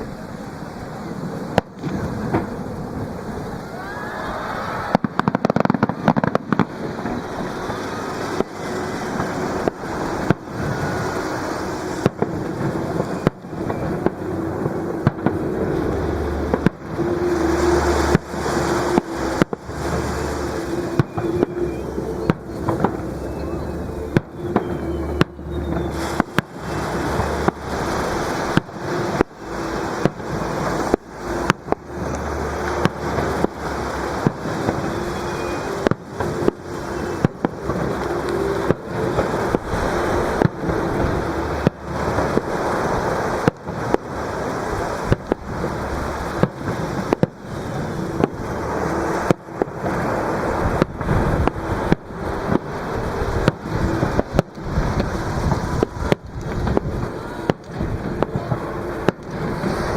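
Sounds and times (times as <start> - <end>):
fireworks bursting with sharp bangs: 0.0 - 59.9
fireworks rumble and crackle: 0.0 - 59.9.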